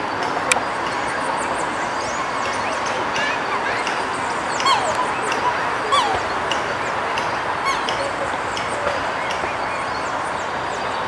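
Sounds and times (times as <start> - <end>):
birds chirping: 0.0 - 11.0
steady background hiss: 0.0 - 11.0.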